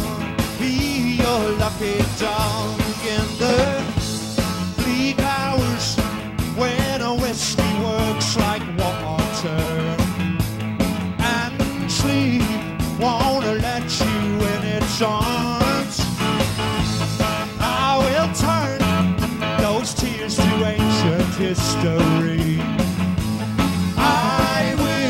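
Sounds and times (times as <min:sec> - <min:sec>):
rock band playing: 0:00.0 - 0:25.0.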